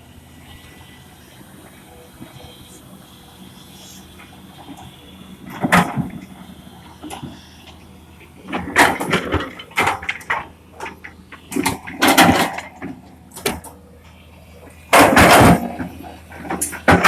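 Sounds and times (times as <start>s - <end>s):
excavator engine hum: 0.0s - 17.0s.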